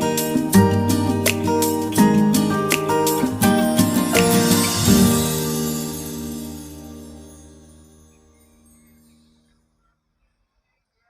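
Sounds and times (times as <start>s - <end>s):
acoustic guitar picking and strumming: 0.0s - 8.9s.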